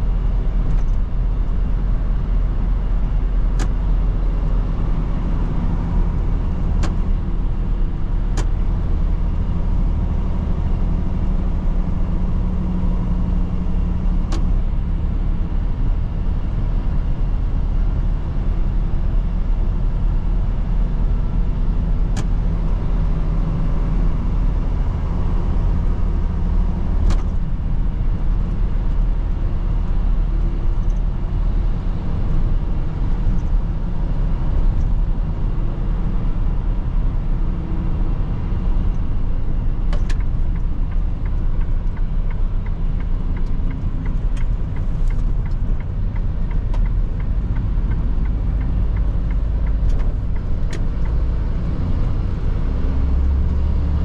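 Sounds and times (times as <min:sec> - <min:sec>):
truck diesel engine rumble: 0:00.0 - 0:54.0.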